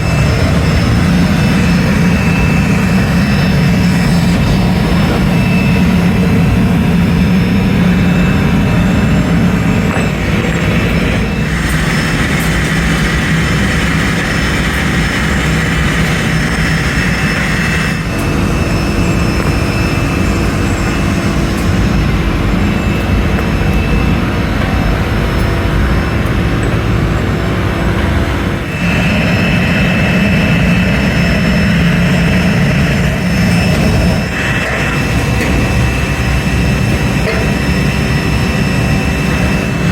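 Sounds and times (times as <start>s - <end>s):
factory machinery roaring: 0.0s - 39.9s
faint steady whine: 0.0s - 39.9s.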